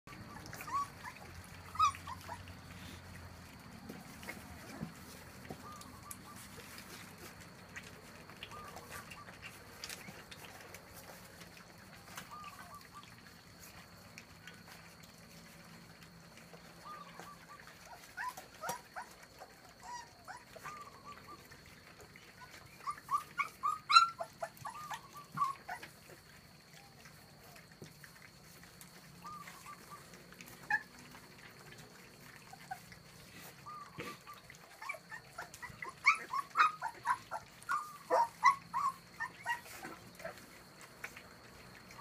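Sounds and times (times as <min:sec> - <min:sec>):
puppies whimpering: 0:00.1 - 0:42.0.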